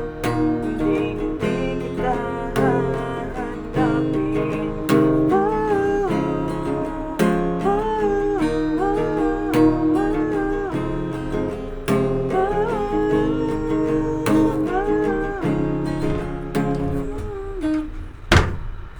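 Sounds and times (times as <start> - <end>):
acoustic guitar chords: 0.0 - 18.9
gliding guitar melody: 0.0 - 18.9.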